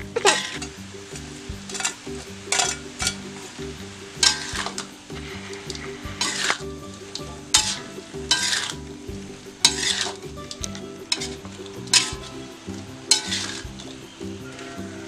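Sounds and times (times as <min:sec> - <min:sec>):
background music with bass line: 0:00.0 - 0:15.0
food sizzling in a frying pan: 0:00.0 - 0:15.0
utensil scraping a pan: 0:00.0 - 0:15.0.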